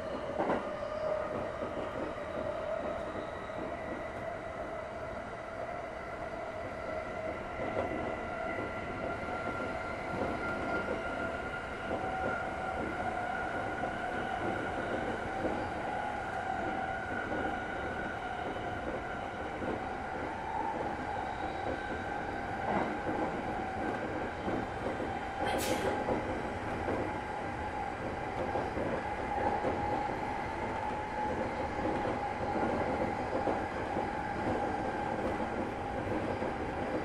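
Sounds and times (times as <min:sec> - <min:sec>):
wheels rumbling on rail: 0:06.5 - 0:37.0.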